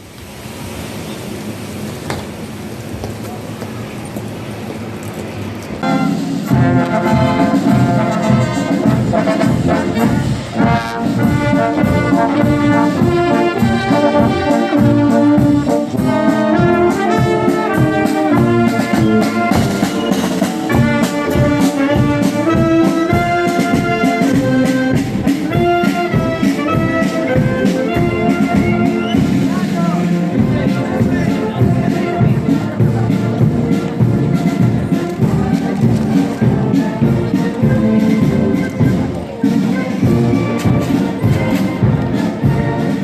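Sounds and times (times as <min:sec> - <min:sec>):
brass band marching tune: 0:05.8 - 0:43.0
steady drum beat: 0:05.8 - 0:43.0.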